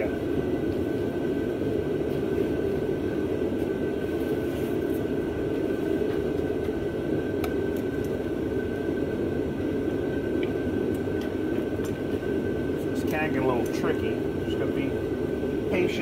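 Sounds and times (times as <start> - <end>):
gas heater running: 0.0 - 16.0
high whine: 0.0 - 16.0.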